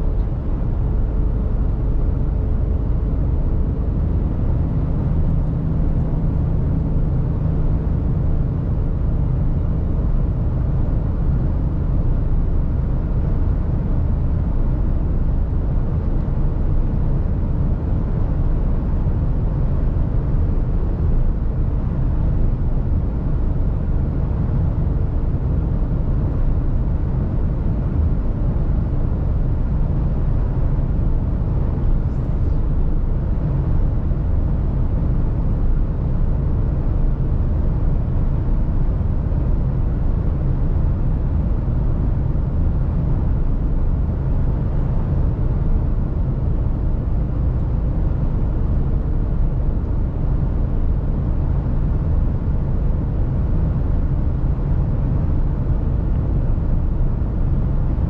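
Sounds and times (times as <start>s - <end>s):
faint steady hum: 0.0s - 58.0s
truck engine and road drone: 0.0s - 58.0s.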